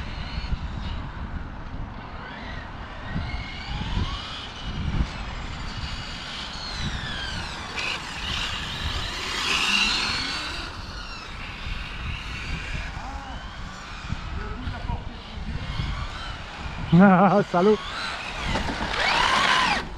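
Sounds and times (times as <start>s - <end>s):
remote control car motor whining: 0.0s - 19.9s
wind rumble on microphone: 0.0s - 19.9s.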